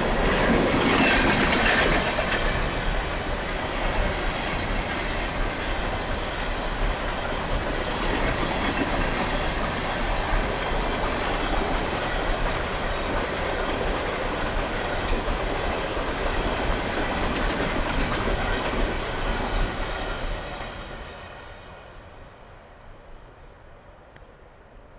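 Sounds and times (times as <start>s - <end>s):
train wheels rumbling on rails: 0.0s - 22.3s.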